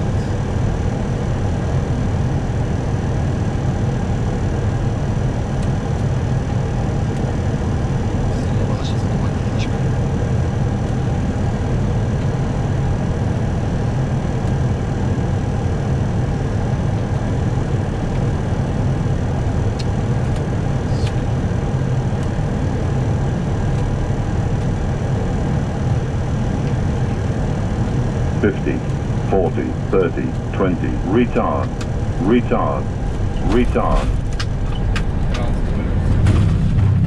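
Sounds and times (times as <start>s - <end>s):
airflow and engine rumble: 0.0s - 37.0s.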